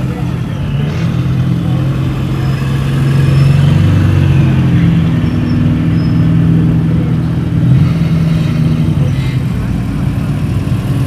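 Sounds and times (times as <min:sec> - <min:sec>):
car engine with deep exhaust: 0:00.0 - 0:11.0.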